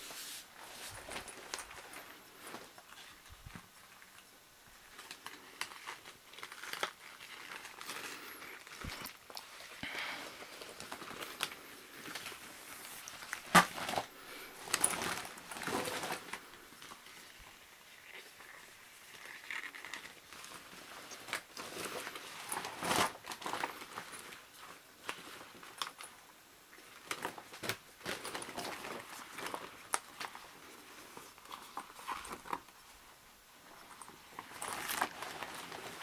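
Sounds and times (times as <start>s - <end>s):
latex rubber rustling and crinkling: 0.0s - 36.0s.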